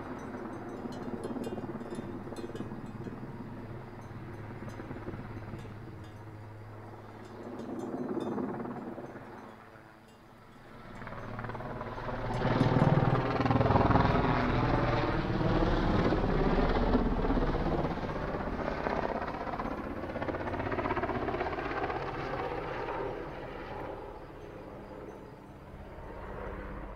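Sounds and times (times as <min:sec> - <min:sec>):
helicopter passing overhead: 0:00.0 - 0:26.9.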